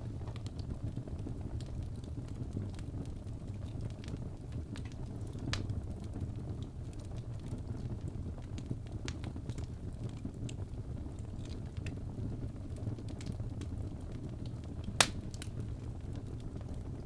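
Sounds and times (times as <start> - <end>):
fire crackling: 0.0 - 17.0
low fire rumble: 0.0 - 17.0.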